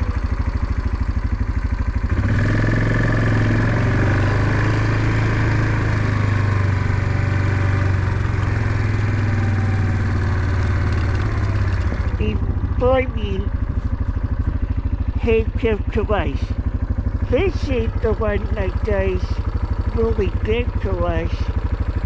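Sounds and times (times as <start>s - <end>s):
small engine idling and revving: 0.0s - 22.0s.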